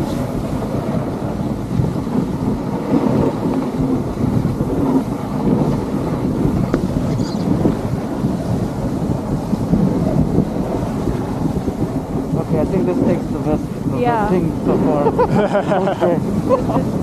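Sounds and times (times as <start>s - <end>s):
sled runners grinding over snow: 0.0s - 17.0s
wind buffeting microphone: 0.0s - 17.0s.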